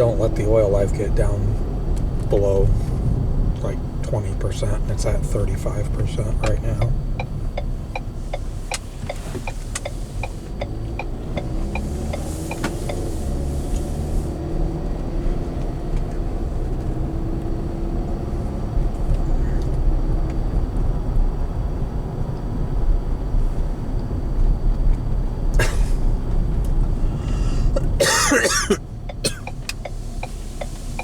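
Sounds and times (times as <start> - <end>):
car engine and road rumble: 0.0 - 31.0
turn signal ticking: 0.0 - 31.0.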